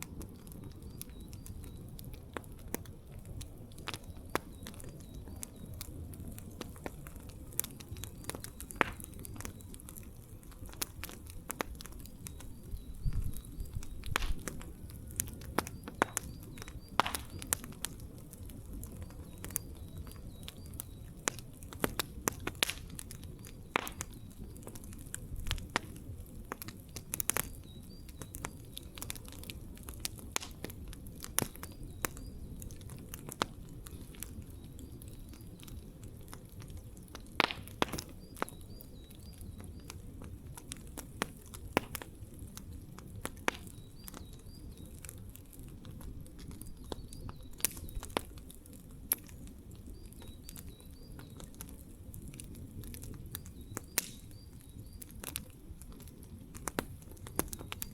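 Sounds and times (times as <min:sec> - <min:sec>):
campfire crackling: 0:00.0 - 0:57.9
low rumble of burning: 0:00.0 - 0:57.9.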